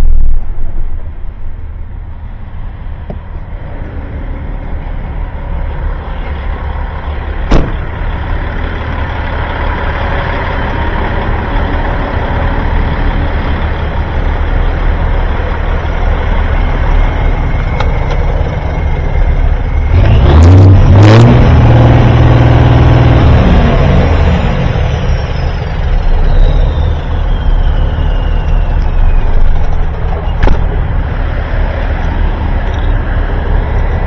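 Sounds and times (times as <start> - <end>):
diesel engine starting and revving: 0.0 - 34.0
diesel trucks idling: 0.3 - 34.0.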